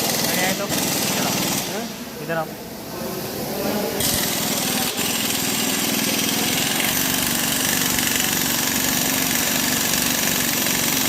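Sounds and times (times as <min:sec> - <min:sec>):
small engine running: 0:00.0 - 0:01.9, 0:04.0 - 0:11.0.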